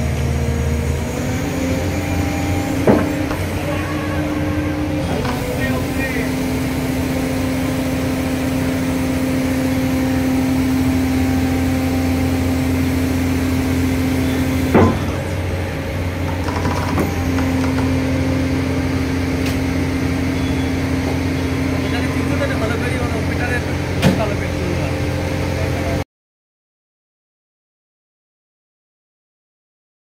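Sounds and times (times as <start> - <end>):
engine and hydraulic hum: 0.0 - 26.0.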